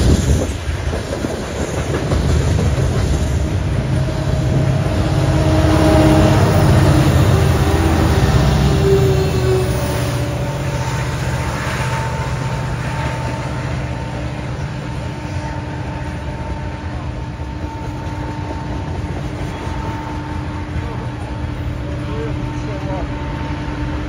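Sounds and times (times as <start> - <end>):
locomotive engine: 0.0 - 24.0.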